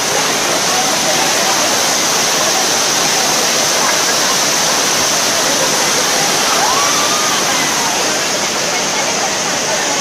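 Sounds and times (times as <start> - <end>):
faint shouting voices: 0.0 - 10.0
waterfall rushing onto rocks: 0.0 - 10.0.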